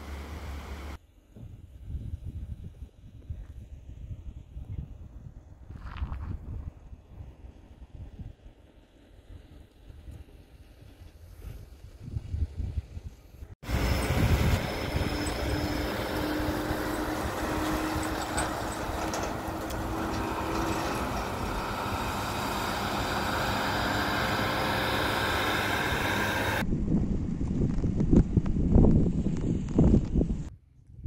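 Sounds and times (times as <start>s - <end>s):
truck engine and road noise: 0.0s - 12.1s, 13.4s - 26.7s.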